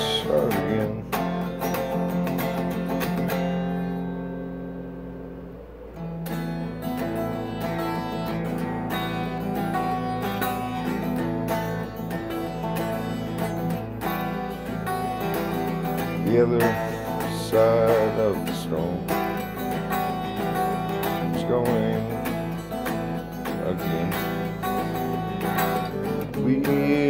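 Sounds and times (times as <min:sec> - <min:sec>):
strummed guitar: 0:00.0 - 0:27.0.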